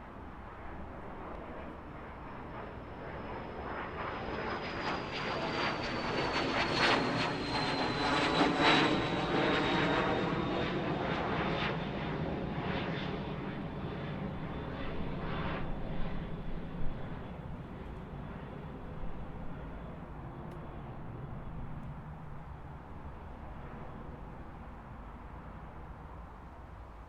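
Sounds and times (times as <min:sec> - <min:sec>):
aircraft engine flying overhead: 0:00.0 - 0:27.0.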